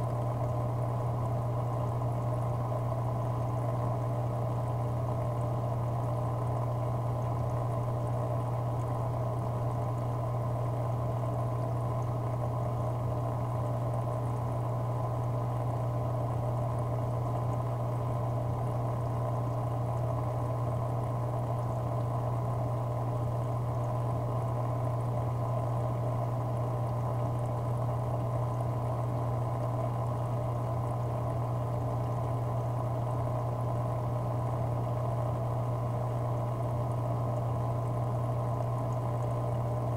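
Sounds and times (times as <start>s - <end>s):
aquarium pump humming: 0.0s - 39.9s
bubbling water: 0.0s - 39.9s.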